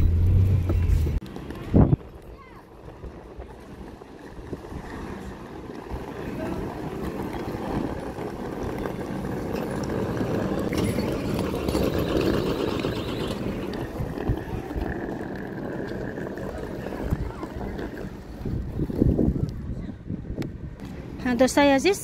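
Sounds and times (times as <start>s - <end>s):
suitcases rolling over concrete: 0.5s - 19.8s.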